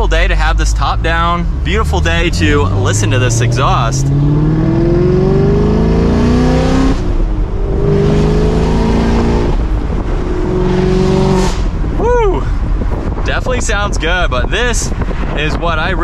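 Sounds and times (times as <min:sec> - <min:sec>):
car engine accelerating: 0:00.0 - 0:13.4.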